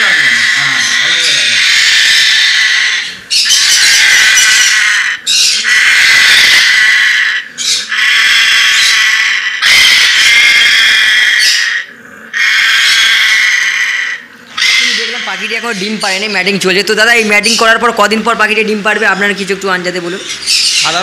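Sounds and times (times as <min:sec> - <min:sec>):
parrot screeching: 0:00.0 - 0:21.0.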